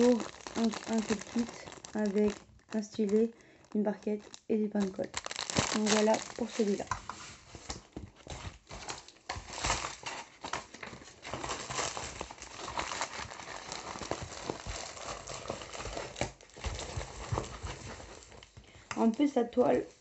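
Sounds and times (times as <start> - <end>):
canvas crinkling and rustling: 0.0 - 19.8.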